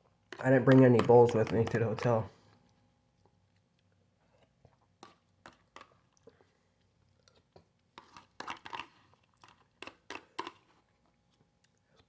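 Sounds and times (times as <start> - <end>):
person chewing food: 0.1 - 12.0.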